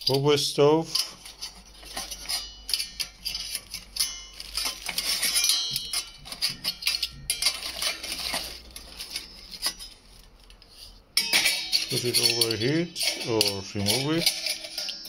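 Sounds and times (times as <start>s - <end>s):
metal cookware clinking: 0.0s - 10.4s, 11.2s - 15.0s.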